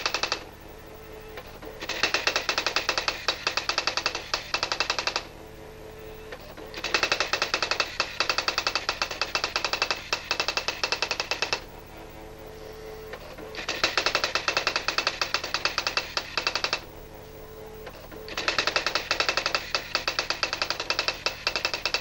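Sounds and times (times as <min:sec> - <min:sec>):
typewriter printing strikes: 0:00.0 - 0:00.6, 0:01.3 - 0:05.4, 0:06.0 - 0:11.8, 0:12.6 - 0:16.9, 0:17.8 - 0:22.0
faint hum: 0:00.0 - 0:22.0.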